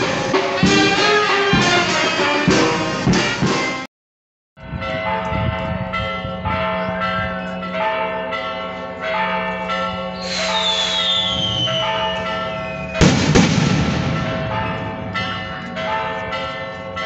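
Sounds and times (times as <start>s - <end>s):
church bells ringing: 0.0s - 3.9s, 4.6s - 10.7s, 11.4s - 17.0s.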